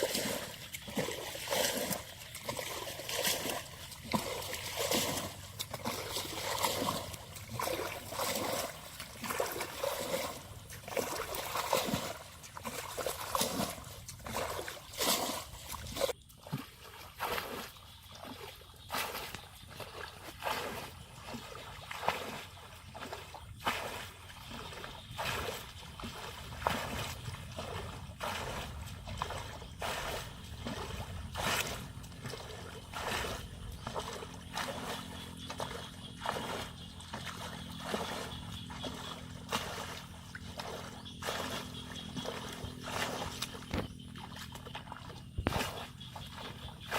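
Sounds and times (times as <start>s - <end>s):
shallow water splashing: 0.0s - 46.9s.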